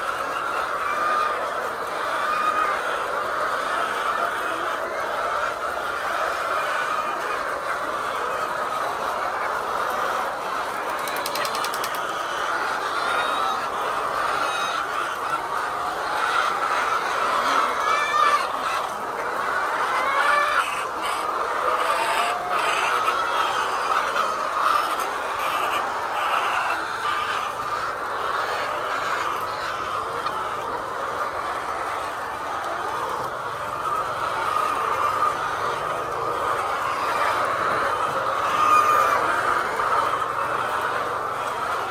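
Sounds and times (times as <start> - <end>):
hens clucking: 0.0 - 41.9.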